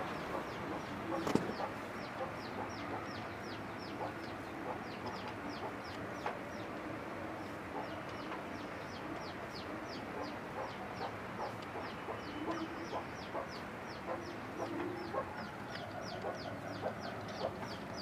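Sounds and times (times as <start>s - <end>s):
lower clucking calls: 0.0s - 6.6s, 7.7s - 18.0s.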